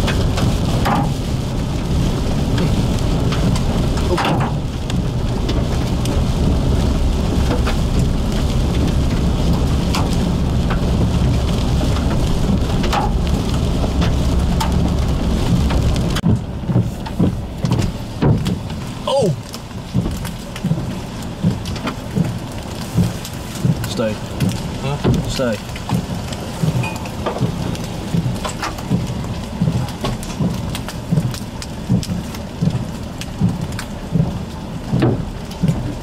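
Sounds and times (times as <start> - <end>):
rain and hail drumming on car: 0.0 - 36.0
tyre and road rumble: 0.0 - 36.0.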